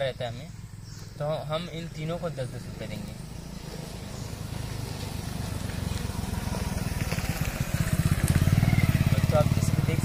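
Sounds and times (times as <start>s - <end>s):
vehicle engine puttering: 0.2s - 10.0s.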